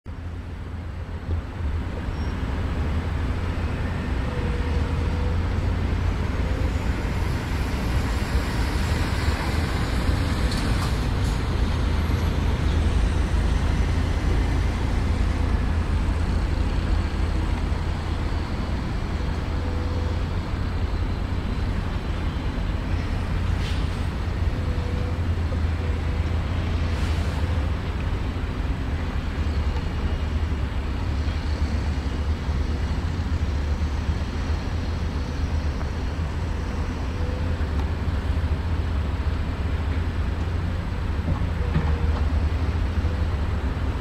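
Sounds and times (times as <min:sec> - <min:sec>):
train wheels rumbling on rail: 0:00.1 - 0:44.0.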